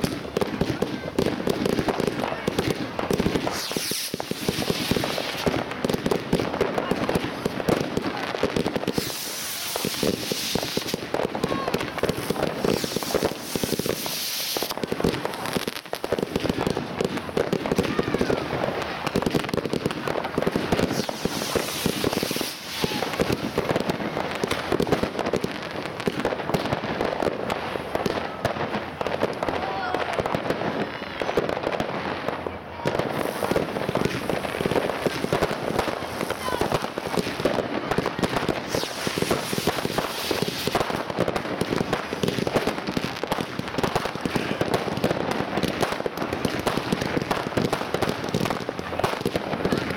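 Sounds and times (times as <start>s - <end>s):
fireworks hissing: 0.0s - 30.8s, 31.6s - 49.9s
fireworks bangs and crackles: 0.0s - 49.9s.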